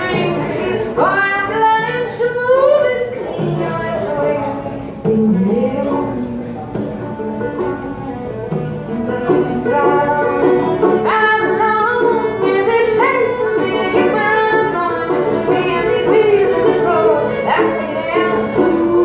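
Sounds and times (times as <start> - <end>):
fiddle bowed melody: 0.0 - 19.0
picked banjo: 0.0 - 19.0.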